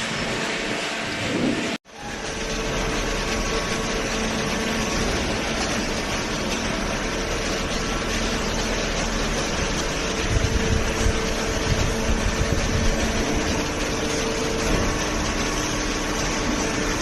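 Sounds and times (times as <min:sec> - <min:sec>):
hydraulic baler humming and hissing: 0:00.0 - 0:17.0.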